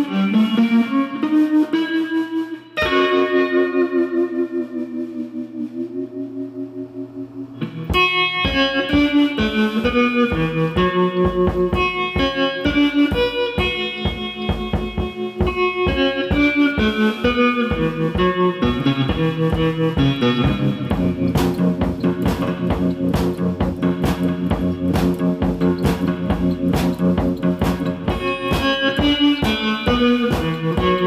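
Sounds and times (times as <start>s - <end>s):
picked guitar melody: 0.0s - 31.0s.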